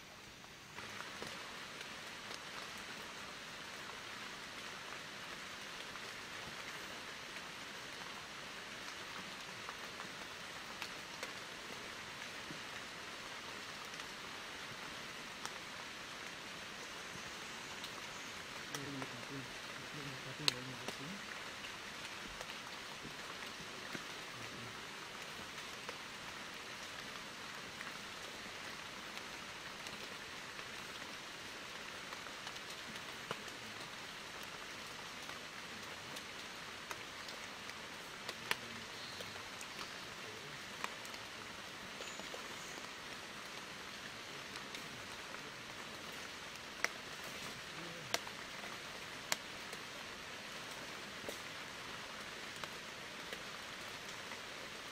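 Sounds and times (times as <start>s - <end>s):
steady even hiss: 0.0s - 54.9s.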